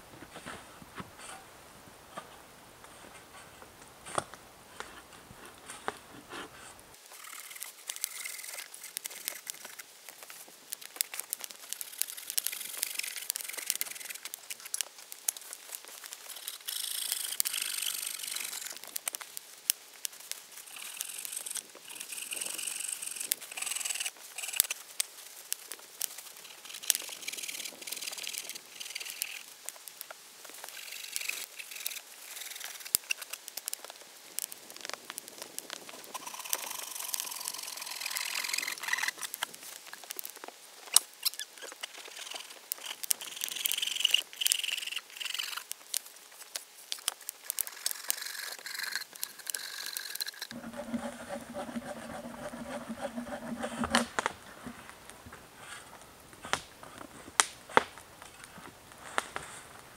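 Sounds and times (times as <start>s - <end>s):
wood fire crackling: 6.8s - 21.9s, 24.2s - 59.9s.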